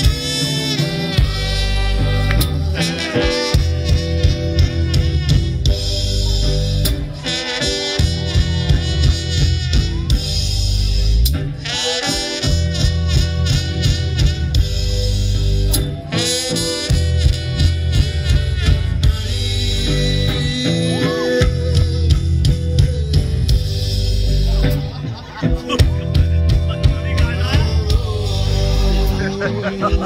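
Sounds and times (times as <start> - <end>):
rock band playing instrumental: 0.0 - 30.0.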